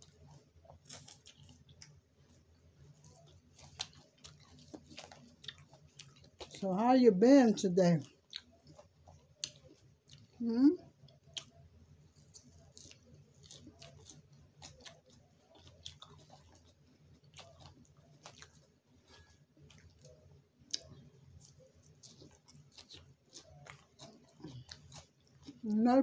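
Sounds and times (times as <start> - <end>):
chewing salad: 0.0 - 26.0.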